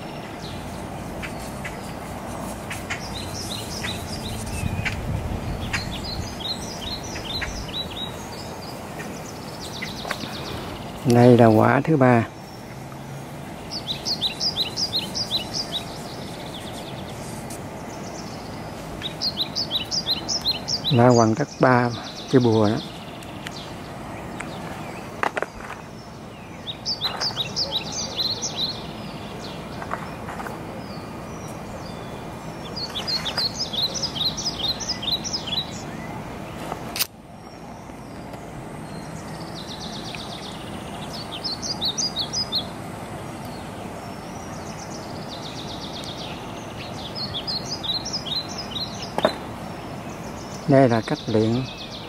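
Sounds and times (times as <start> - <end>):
songbird chirping: 0.0 - 52.0
steady background noise: 0.0 - 52.0.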